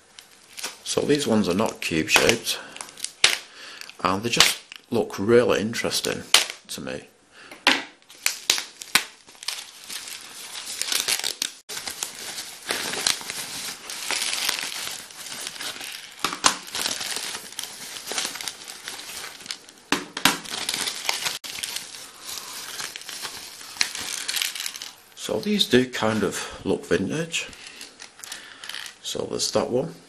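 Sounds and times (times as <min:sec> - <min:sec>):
packaging crinkling and rustling: 0:00.0 - 0:05.0, 0:08.0 - 0:26.3, 0:27.4 - 0:29.1.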